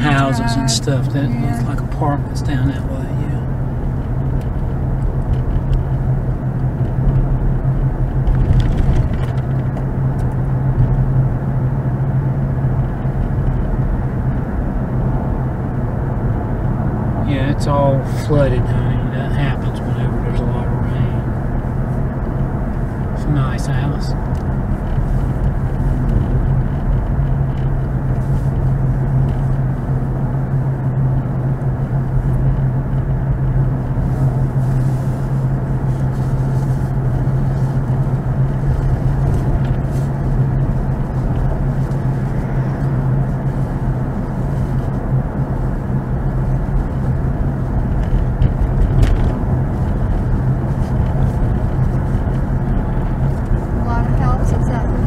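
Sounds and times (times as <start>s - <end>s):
car engine hum: 0.0s - 55.0s.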